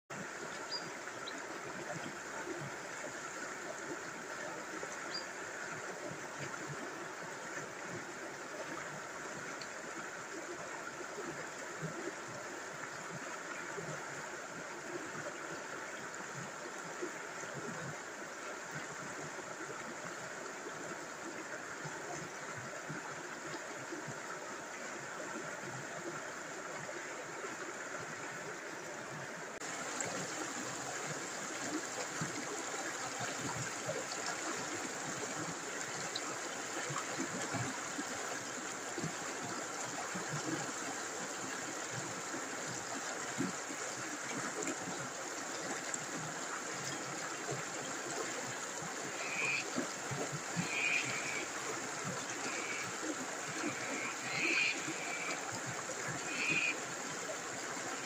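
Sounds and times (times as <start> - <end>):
water rushing over rocks: 0.1 - 58.0.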